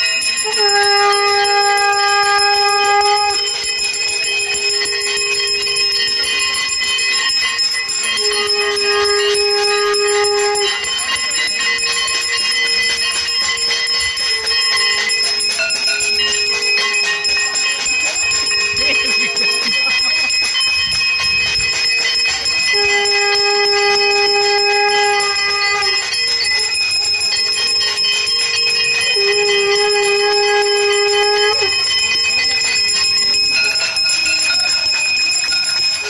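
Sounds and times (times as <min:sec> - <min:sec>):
conch shell blasts: 0:00.0 - 0:18.8, 0:21.4 - 0:34.7
bells ringing: 0:00.0 - 0:36.0.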